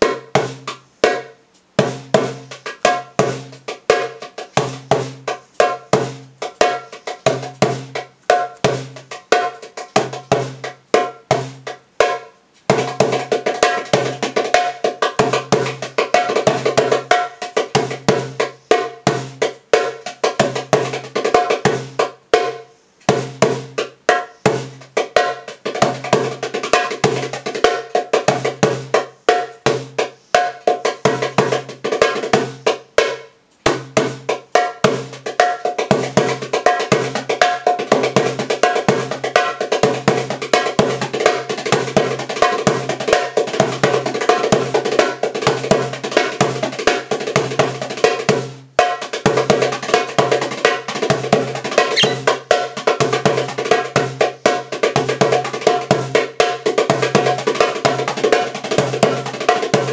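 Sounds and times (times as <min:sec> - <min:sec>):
goblet drum played by hand: 0:00.0 - 0:59.9.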